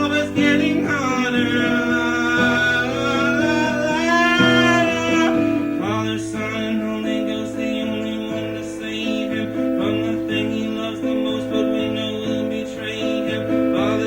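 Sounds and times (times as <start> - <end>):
person singing wordless note: 0.0 - 12.7
acoustic guitar strumming: 0.0 - 14.0.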